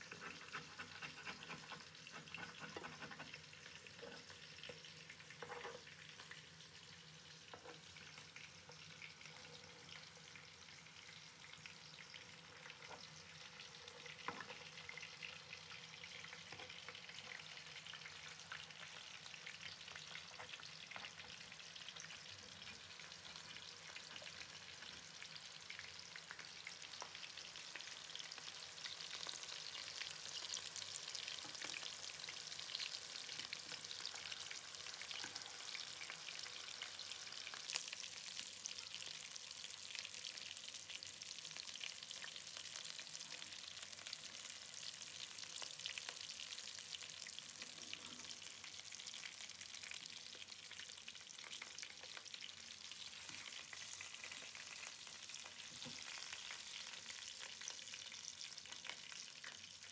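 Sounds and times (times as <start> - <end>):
meatballs sizzling in hot oil: 0.0 - 59.9.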